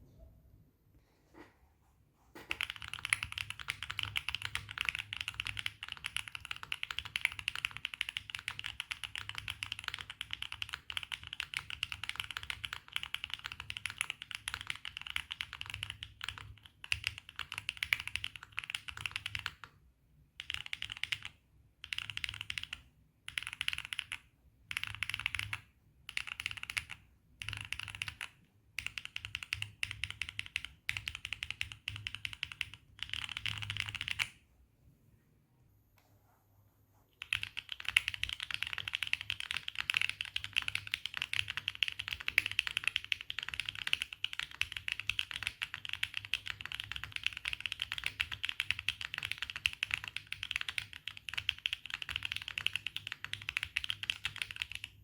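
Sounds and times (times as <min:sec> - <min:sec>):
clacky mechanical keyboard typing: 0:02.5 - 0:19.7, 0:20.4 - 0:34.4, 0:37.2 - 0:55.0.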